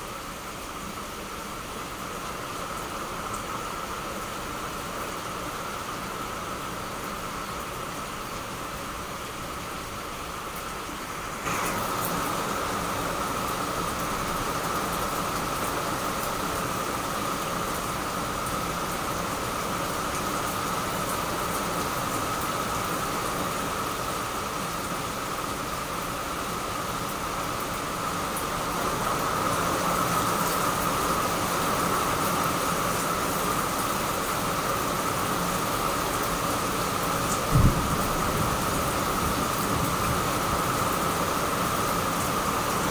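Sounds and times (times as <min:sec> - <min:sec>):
rain on plants and leaves: 0:00.0 - 0:42.9.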